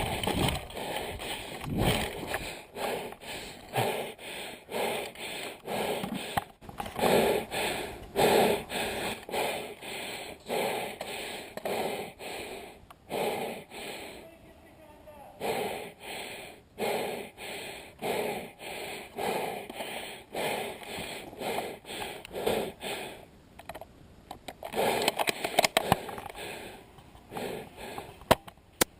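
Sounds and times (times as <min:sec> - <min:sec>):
person breathing hard: 0:00.0 - 0:14.3, 0:15.4 - 0:23.3, 0:24.6 - 0:28.3.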